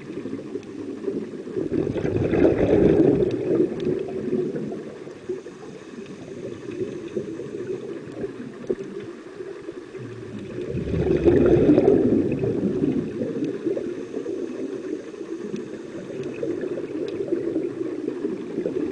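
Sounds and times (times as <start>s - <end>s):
diver's regulator bubbling underwater: 0.0s - 18.9s.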